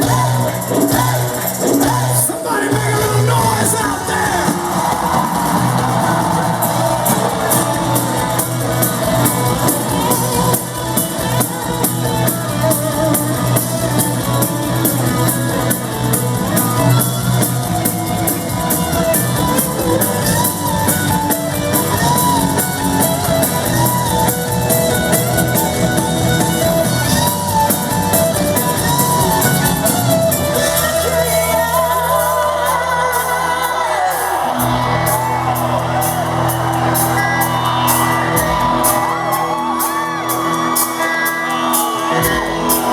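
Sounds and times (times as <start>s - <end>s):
crowd shouting: 0.0s - 42.9s
live rock band: 0.0s - 42.9s
person singing: 0.0s - 42.9s
steady drum beat: 0.0s - 42.9s.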